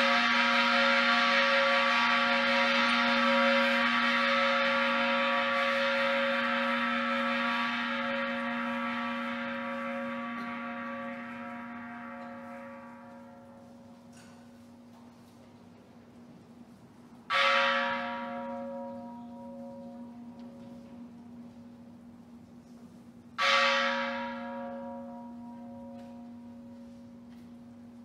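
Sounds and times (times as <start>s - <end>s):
large temple bell ringing: 0.0s - 15.4s, 17.2s - 28.0s.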